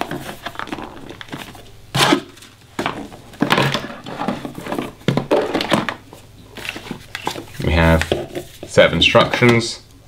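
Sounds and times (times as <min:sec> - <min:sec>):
cardboard packaging scraping and rustling: 0:00.0 - 0:08.8.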